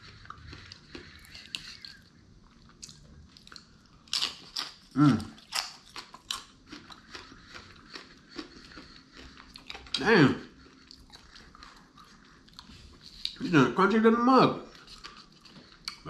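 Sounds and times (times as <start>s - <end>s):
chewing crunchy food: 0.0s - 13.6s, 14.6s - 16.0s.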